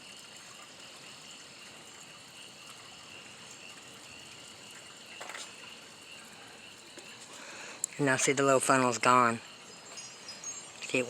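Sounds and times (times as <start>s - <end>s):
frogs calling: 0.0s - 11.0s
insects calling: 0.0s - 11.0s.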